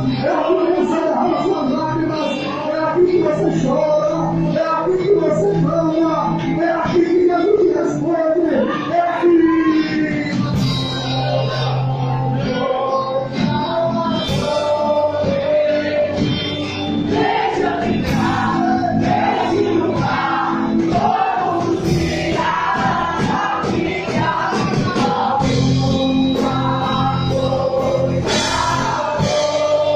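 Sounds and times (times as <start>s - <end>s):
gospel choir with instruments: 0.0s - 29.9s.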